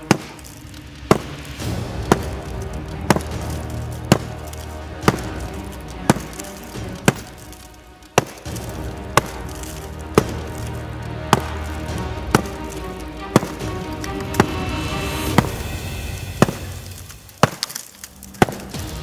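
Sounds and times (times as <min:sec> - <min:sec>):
background music: 0:00.0 - 0:19.0
blade chopping into log: 0:00.0 - 0:19.0.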